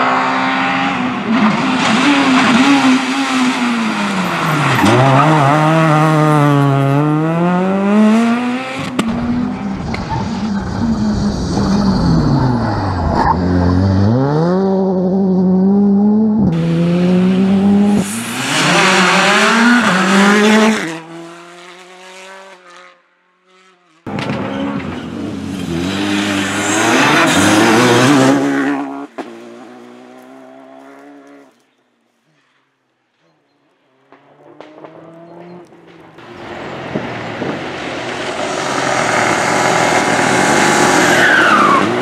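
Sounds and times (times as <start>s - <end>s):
rally car engines revving: 0.0s - 31.5s, 34.1s - 42.0s.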